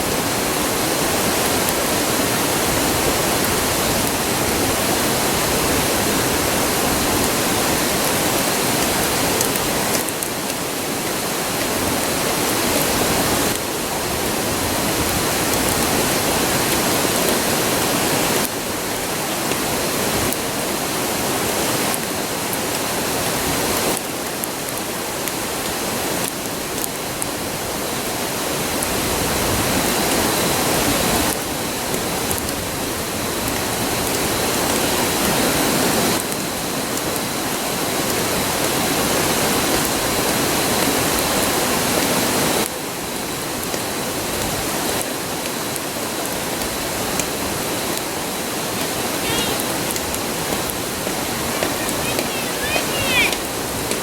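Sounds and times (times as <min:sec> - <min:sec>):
campfire crackling: 0:00.0 - 0:54.0
river rushing: 0:00.0 - 0:54.0.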